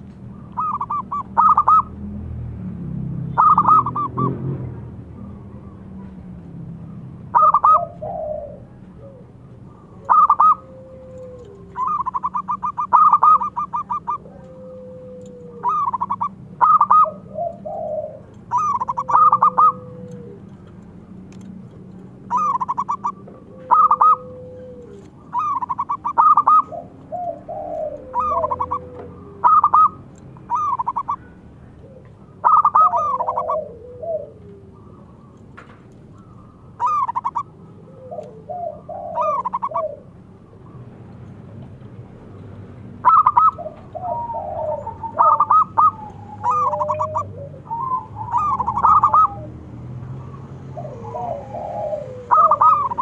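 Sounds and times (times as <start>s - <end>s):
dove cooing: 0.0s - 2.0s, 3.2s - 4.6s, 6.8s - 53.0s.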